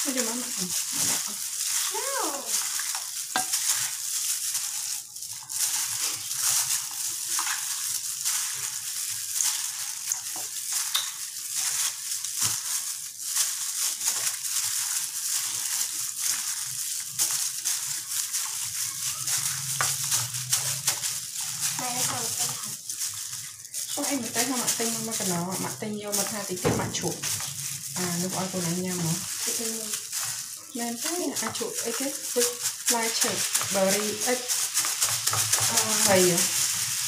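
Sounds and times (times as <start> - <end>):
plastic glove crinkling: 0.0 - 37.0
wet squelching of kneaded meat: 0.0 - 37.0.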